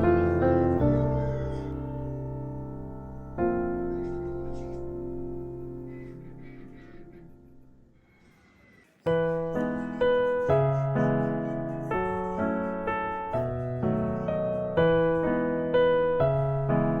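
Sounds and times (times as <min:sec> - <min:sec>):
piano notes and chords: 0:00.0 - 0:08.2, 0:09.0 - 0:17.0.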